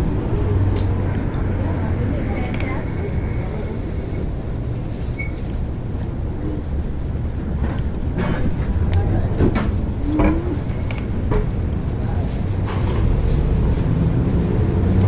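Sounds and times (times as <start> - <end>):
city street traffic rumble: 0.0 - 15.0
faint voices of passers-by: 0.0 - 15.0.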